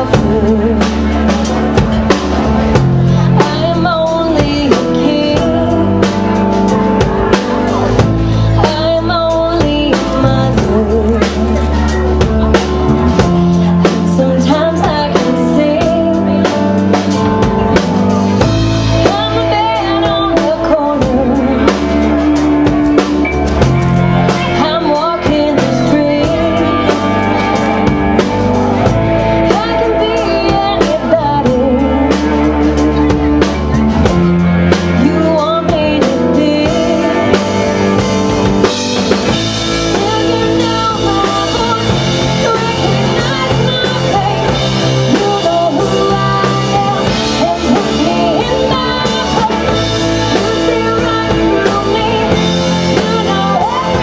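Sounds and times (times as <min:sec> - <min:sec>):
bass guitar: 0:00.0 - 0:54.0
drum kit: 0:00.0 - 0:54.0
electric guitar: 0:00.0 - 0:54.0
person singing: 0:00.0 - 0:54.0.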